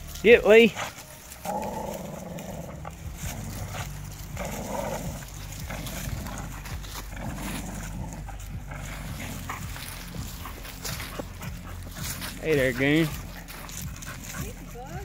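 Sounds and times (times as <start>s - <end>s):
dog growling while tugging rope: 0.8s - 14.7s.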